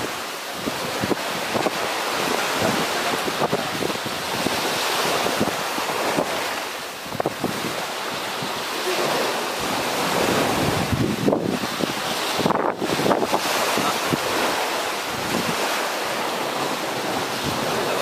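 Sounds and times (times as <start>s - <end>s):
surf washing on a beach: 0.0s - 18.0s
wind buffeting microphone: 0.0s - 18.0s.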